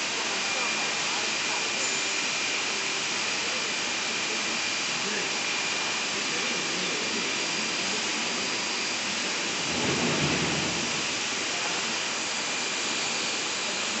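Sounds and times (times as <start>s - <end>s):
faint high whine: 0.1s - 14.0s.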